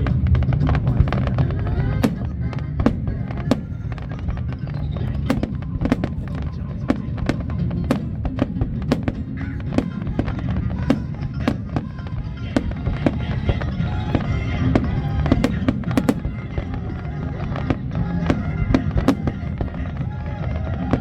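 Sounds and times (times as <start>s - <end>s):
fireworks bangs and cracks: 0.0s - 21.0s
music playing: 0.0s - 21.0s.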